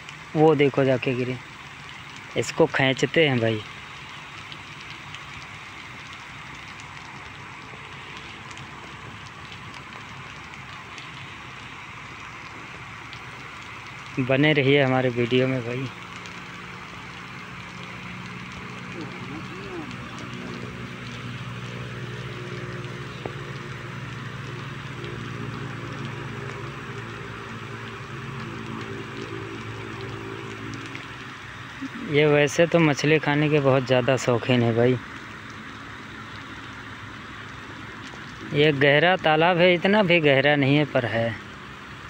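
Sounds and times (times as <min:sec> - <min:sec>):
engine humming: 0:00.0 - 0:42.0
outdoor background hiss: 0:00.0 - 0:42.0.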